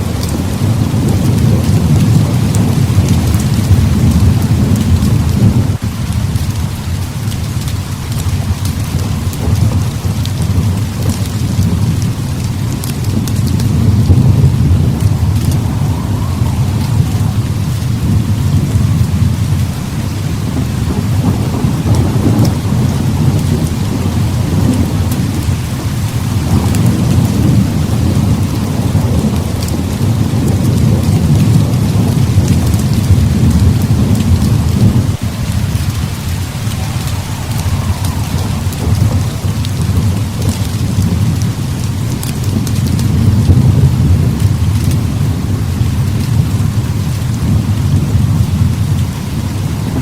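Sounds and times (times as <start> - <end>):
heavy rain falling: 0.0 - 50.0
rolling thunder rumble: 0.0 - 50.0.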